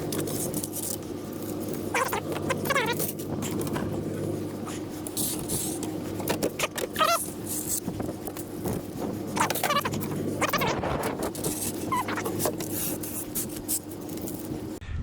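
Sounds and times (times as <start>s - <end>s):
metal rubbing squeaks: 0.0s - 4.0s, 4.6s - 14.8s
steady low hum: 0.0s - 15.0s.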